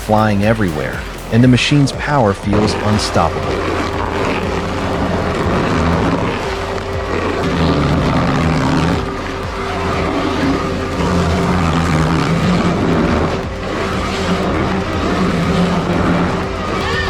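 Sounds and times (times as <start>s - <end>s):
stump grinder engine running: 2.1s - 17.0s.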